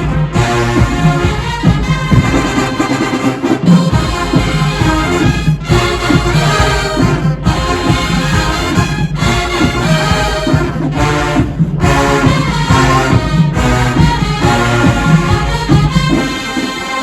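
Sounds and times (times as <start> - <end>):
marching band brass playing: 0.0 - 17.0
rhythmic drum beat: 0.0 - 17.0.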